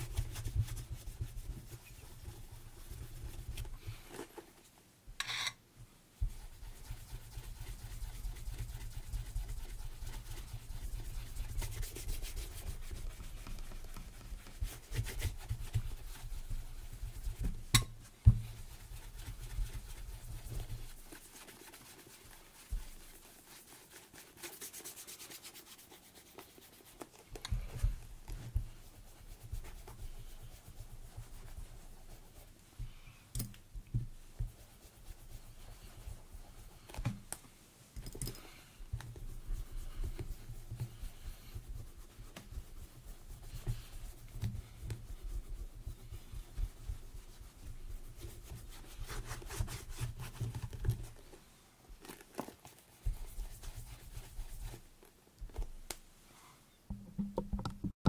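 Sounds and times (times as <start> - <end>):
leather boot being rubbed: 6.2 - 32.9, 34.0 - 37.0, 38.9 - 55.8.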